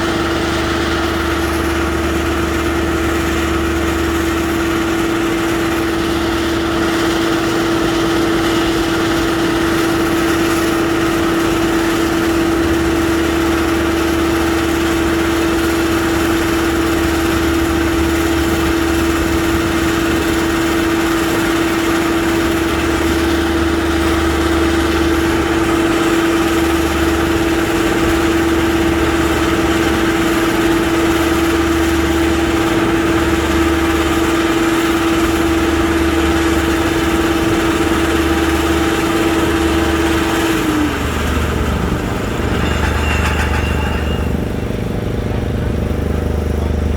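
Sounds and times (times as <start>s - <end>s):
constant hum: 0.0s - 46.9s
construction machine engine running: 0.0s - 46.9s.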